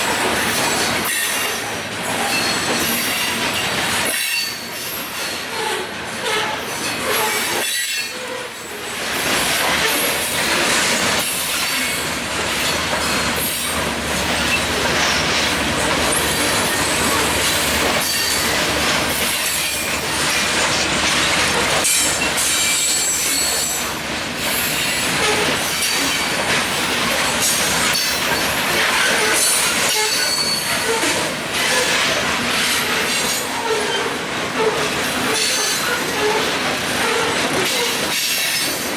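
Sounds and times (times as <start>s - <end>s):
freight train rolling past: 0.0s - 38.9s
wheels squealing against rails: 0.0s - 38.9s.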